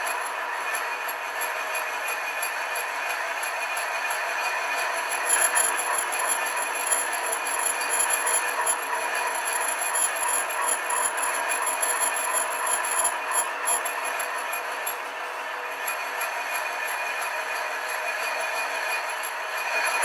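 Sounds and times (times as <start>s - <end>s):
lathe cutting steel: 0.0s - 20.0s
lathe motor whine: 0.0s - 20.0s.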